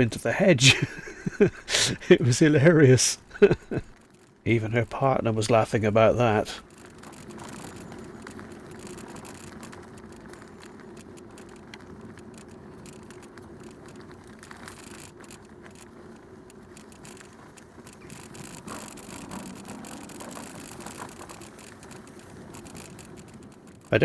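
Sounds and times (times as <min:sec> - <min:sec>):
bicycle ticks and rattles: 0:00.0 - 0:24.0
bicycle tyres rolling: 0:00.0 - 0:24.0.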